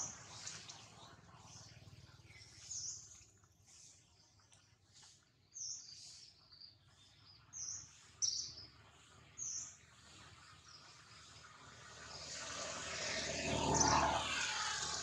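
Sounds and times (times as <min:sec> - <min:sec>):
birds chirping: 0:00.0 - 0:15.0
faint outdoor background: 0:00.0 - 0:15.0.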